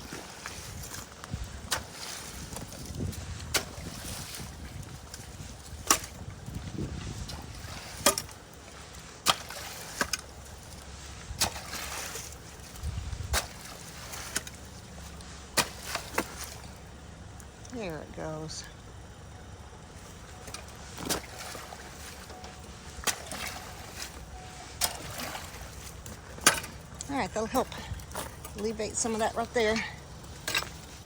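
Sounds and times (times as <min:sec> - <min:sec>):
water sloshing and trickling: 0:00.0 - 0:31.0.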